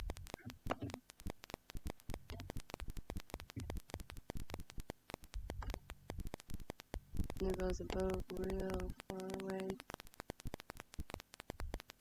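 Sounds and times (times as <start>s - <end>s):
crackling clicks: 0.0s - 12.0s.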